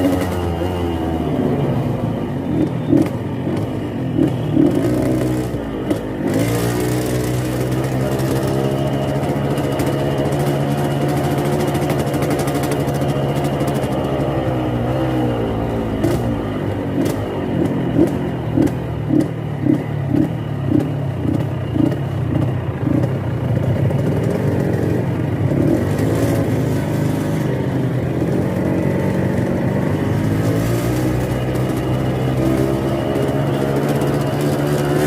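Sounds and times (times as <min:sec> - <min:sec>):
two-stroke motorcycle engine burbling: 0:00.0 - 0:35.0.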